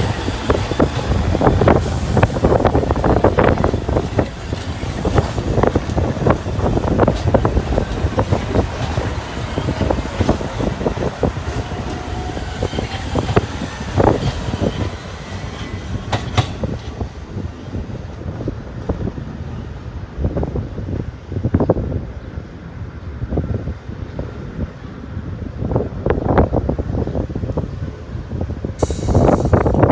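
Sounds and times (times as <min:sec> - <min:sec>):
subway train wheels clattering: 0:00.0 - 0:23.6, 0:24.2 - 0:29.9.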